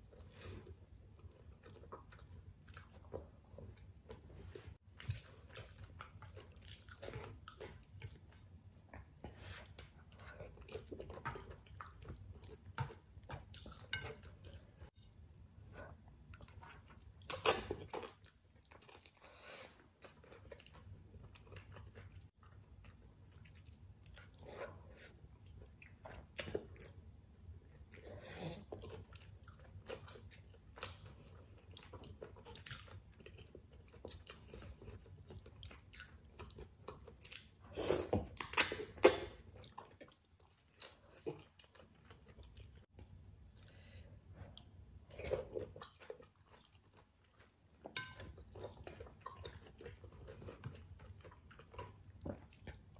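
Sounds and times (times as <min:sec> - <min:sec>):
chewing and wet mouth sounds: 0:00.0 - 0:52.9.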